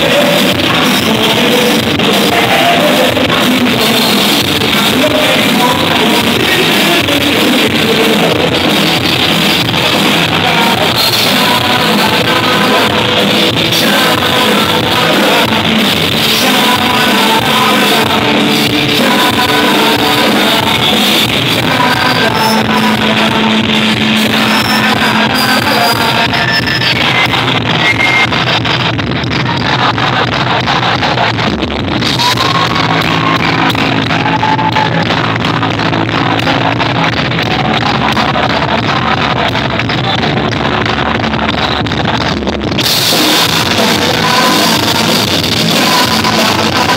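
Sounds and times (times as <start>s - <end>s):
man singing: 0.0s - 46.9s
rock band playing: 0.0s - 46.9s.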